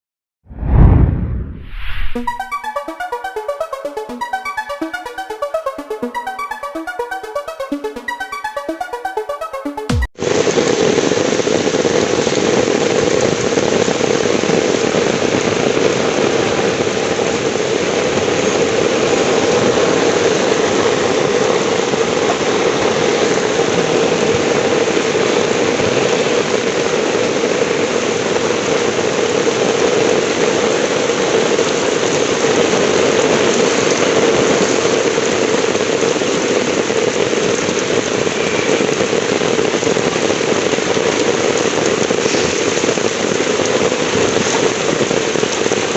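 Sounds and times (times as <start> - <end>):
heavy rain pouring: 2.6 - 45.9.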